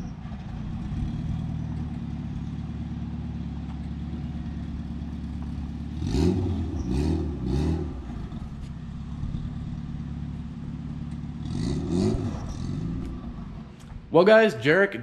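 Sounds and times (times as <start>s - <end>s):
car engine idling and revving: 0.0s - 14.2s.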